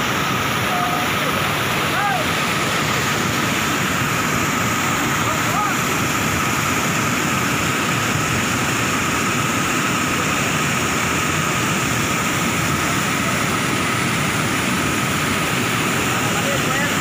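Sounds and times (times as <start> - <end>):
floodwater rushing over a weir: 0.0 - 17.0.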